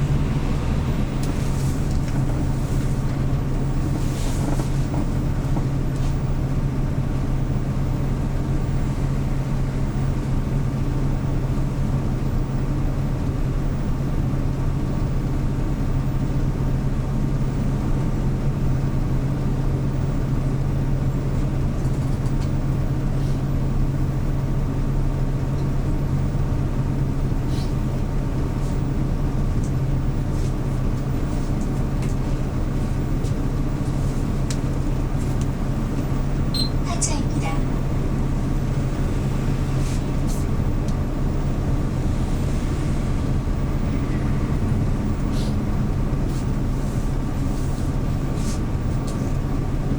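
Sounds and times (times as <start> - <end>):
bus engine humming: 0.0 - 49.9.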